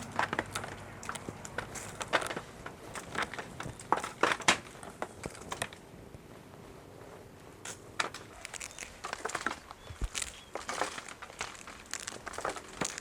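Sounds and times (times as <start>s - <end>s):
dry pods crackling: 0.0s - 6.3s, 7.6s - 13.0s.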